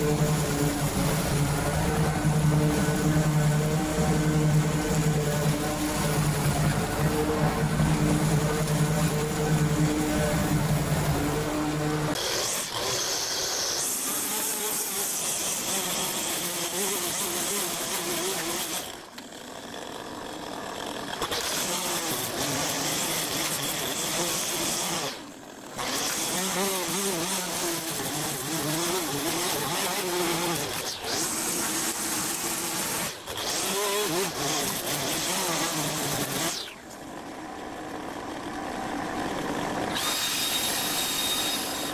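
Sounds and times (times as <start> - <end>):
lawn mower engine running: 0.0 - 41.9
string trimmer engine running: 0.0 - 41.9.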